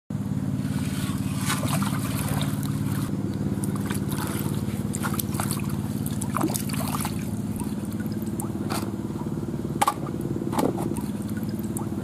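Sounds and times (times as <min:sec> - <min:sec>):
low engine drone: 0:00.1 - 0:12.0
water splashing in a basin: 0:00.7 - 0:09.4, 0:10.1 - 0:12.0.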